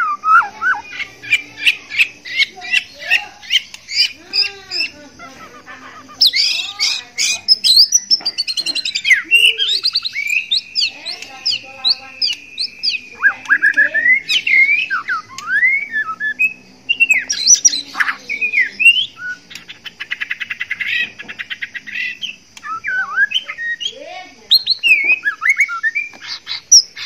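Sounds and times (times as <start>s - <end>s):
bird singing whistles: 0.0s - 2.9s, 6.2s - 27.0s.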